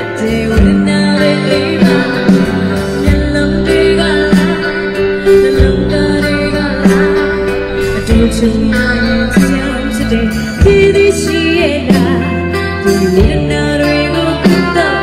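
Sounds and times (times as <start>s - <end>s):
drum kit beat: 0.0s - 13.8s, 14.4s - 15.0s
electric guitar: 0.0s - 15.0s
woman singing with vibrato: 0.0s - 15.0s.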